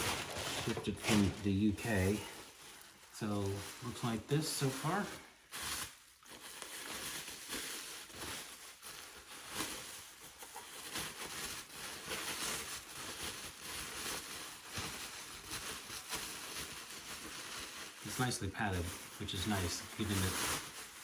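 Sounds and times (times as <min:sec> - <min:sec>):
packaging rustling and scraping: 0:00.0 - 0:21.0.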